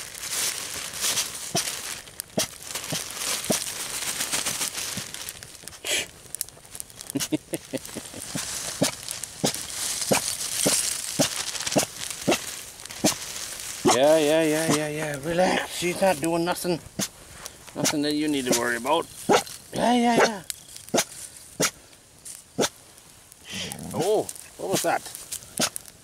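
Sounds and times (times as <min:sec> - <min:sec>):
sharp crackles and clicks: 0:00.0 - 0:26.0
steady hiss: 0:00.0 - 0:26.0.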